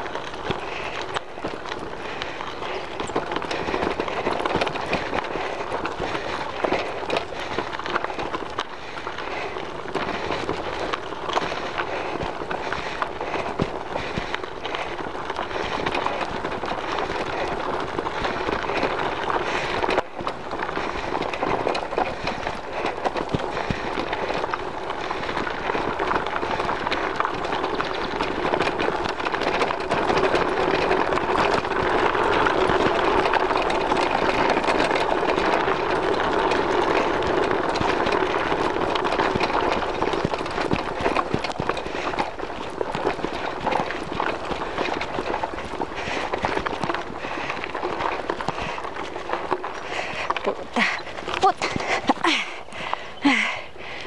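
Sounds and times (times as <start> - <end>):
bike clattering over bumps: 0.0 - 54.0
bike tyres crunching on gravel: 0.0 - 54.0.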